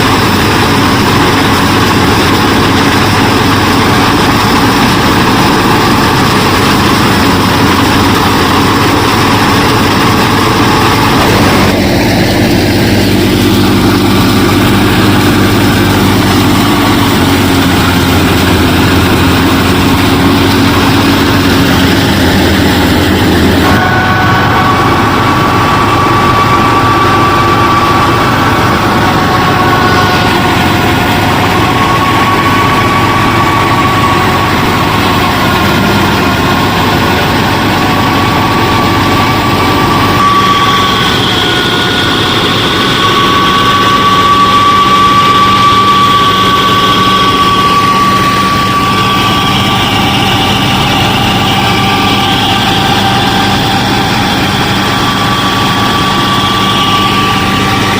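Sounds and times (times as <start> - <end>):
higher motor whine: 0.0 - 57.9
small motors whining: 0.0 - 57.9.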